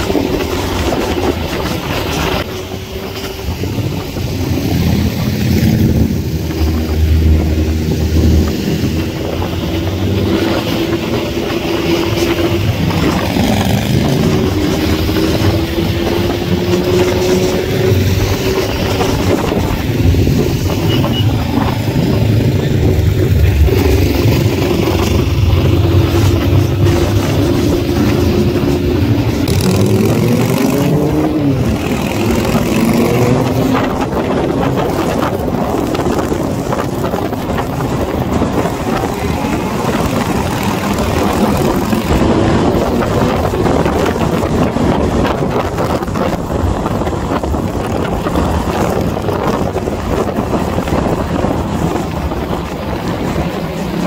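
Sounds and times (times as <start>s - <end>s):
motorcycle engines: 0.0s - 54.0s
wind rushing over microphone: 0.0s - 54.0s.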